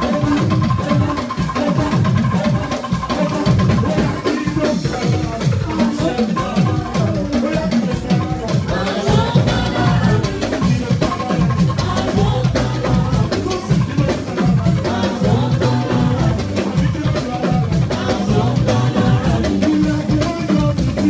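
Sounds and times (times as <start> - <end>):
drum kit and percussion beat: 0.0 - 21.0
man singing into a microphone: 0.0 - 21.0.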